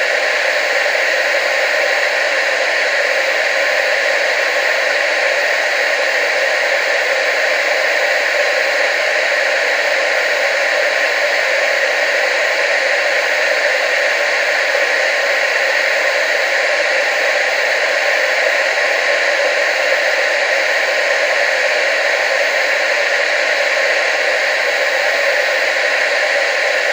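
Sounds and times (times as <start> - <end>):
tv static hiss: 0.0 - 26.9.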